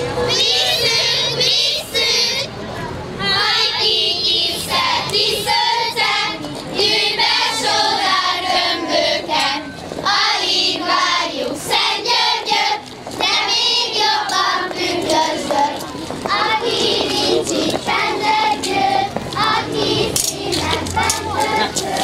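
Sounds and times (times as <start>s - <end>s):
girls singing folk song: 3.2s - 22.0s.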